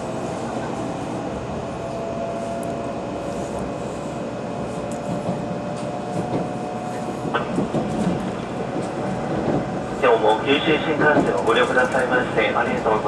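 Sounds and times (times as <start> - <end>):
train cabin rumble: 0.0 - 13.0.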